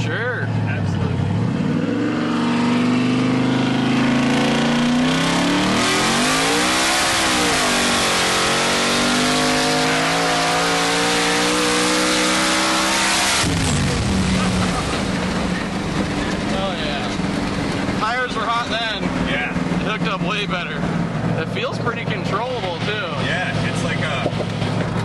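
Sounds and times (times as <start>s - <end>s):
turbocharged engine revving: 0.0s - 25.0s.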